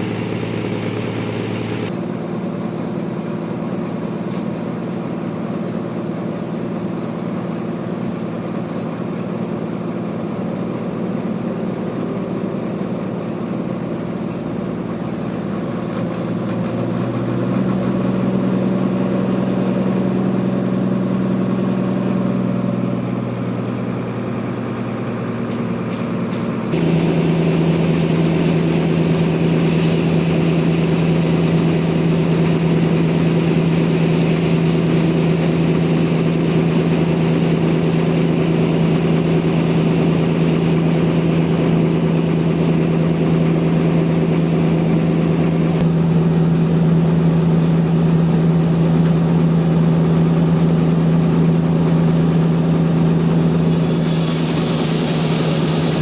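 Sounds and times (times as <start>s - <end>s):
sawmill machinery humming: 0.0s - 5.5s, 6.1s - 56.0s.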